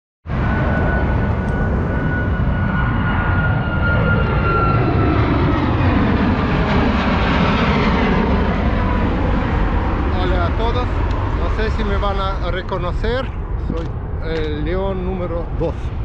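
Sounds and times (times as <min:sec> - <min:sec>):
jet airliner climbing overhead: 0:00.3 - 0:16.0.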